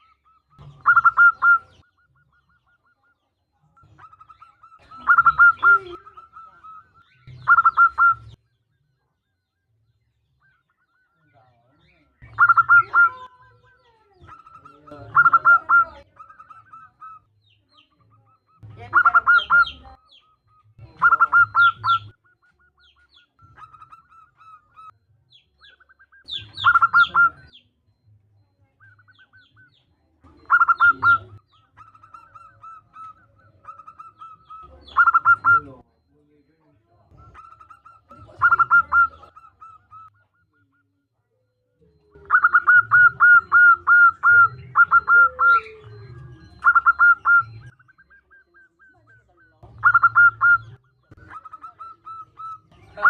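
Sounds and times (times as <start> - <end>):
dove cooing: 0.0 - 8.4, 10.4 - 53.0.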